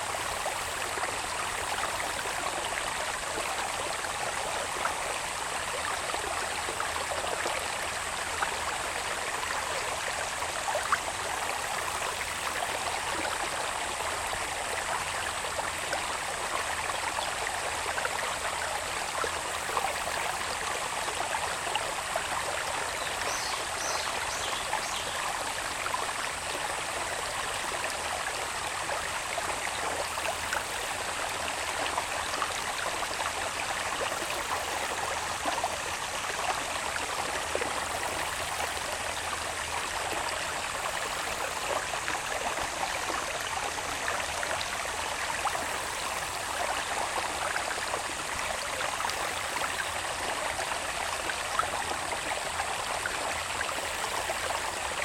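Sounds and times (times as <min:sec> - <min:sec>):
water babbling in a channel: 0:00.0 - 0:55.0.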